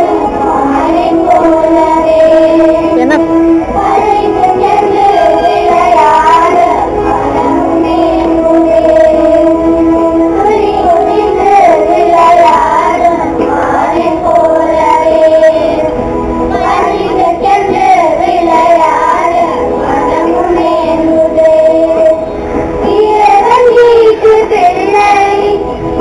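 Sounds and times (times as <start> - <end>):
children singing: 0.0 - 26.0
musical accompaniment: 0.0 - 26.0.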